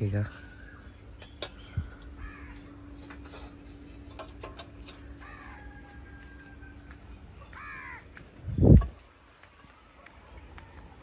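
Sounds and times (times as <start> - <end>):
birds calling: 0.0 - 11.0
faint steady hum: 0.0 - 11.0.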